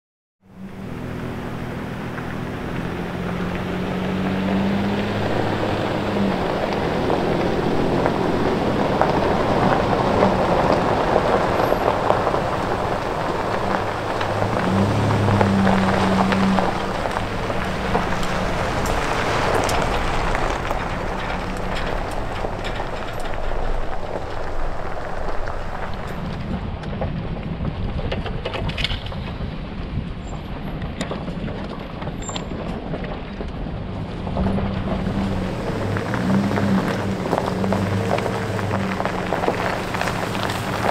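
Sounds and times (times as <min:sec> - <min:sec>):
pickup truck engine: 0:00.4 - 0:40.9
tyres crunching on gravel: 0:00.6 - 0:40.9.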